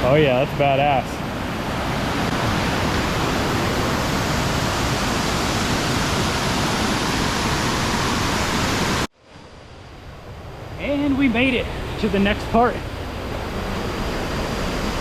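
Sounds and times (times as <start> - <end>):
waterfall roaring: 0.1 - 9.1, 10.7 - 15.0.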